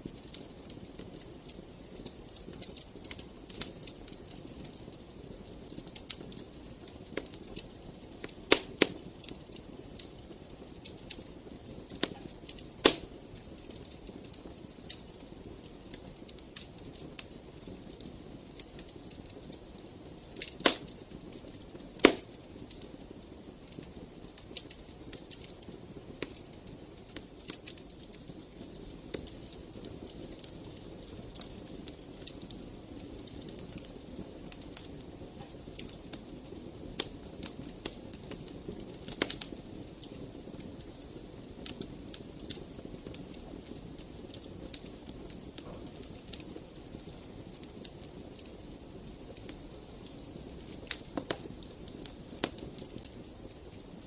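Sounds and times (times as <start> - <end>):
low rush of flames: 0.0 - 54.0
wood fire crackling and popping: 0.0 - 54.0.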